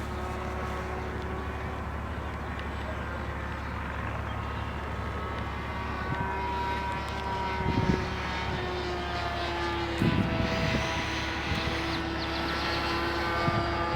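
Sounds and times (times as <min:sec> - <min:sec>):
low wind rumble: 0:00.0 - 0:13.9
propeller airplane flying past: 0:00.0 - 0:13.9.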